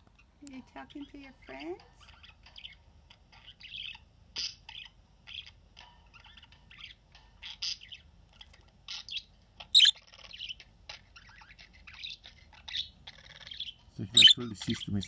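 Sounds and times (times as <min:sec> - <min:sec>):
budgerigars chirping: 0:02.0 - 0:15.0.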